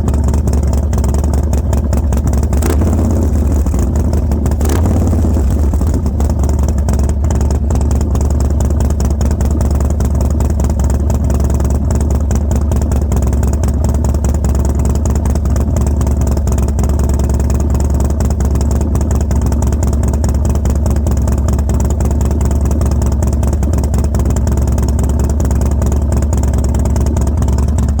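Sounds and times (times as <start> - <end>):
motorcycle engine idling roughly: 0.0 - 28.0.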